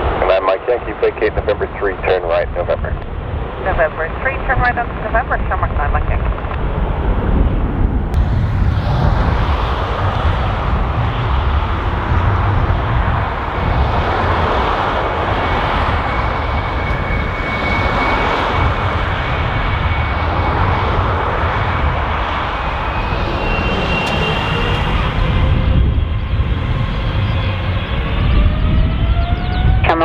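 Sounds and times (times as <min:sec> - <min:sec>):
jet engines roaring: 0:00.0 - 0:30.0
faint high engine whine: 0:03.7 - 0:30.0.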